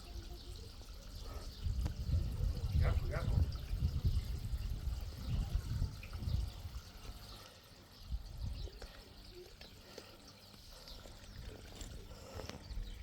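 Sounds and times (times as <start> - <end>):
water pouring and trickling: 0.0 - 13.0.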